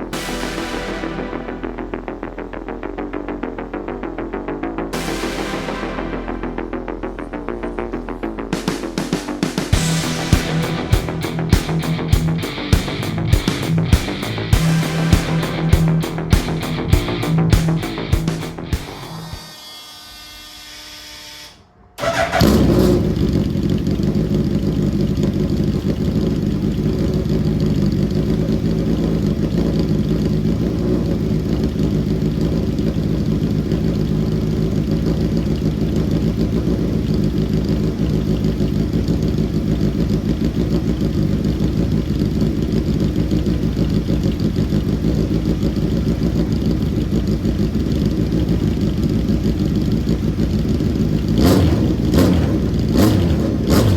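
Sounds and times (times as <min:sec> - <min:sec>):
race car engine running: 0:00.0 - 0:19.4, 0:22.0 - 0:53.9.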